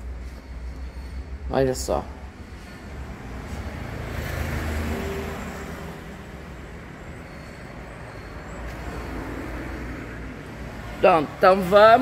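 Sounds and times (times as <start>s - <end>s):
road traffic rumble: 0.0s - 12.0s
vehicle passing: 1.3s - 12.0s.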